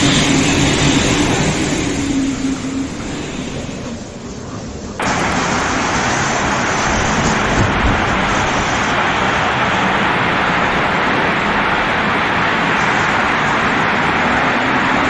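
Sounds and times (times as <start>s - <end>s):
heavy rain pouring: 0.0s - 4.4s, 5.0s - 15.0s.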